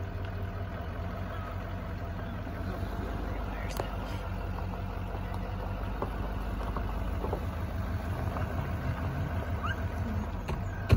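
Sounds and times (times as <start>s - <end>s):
vehicle engine idling: 0.0s - 10.9s.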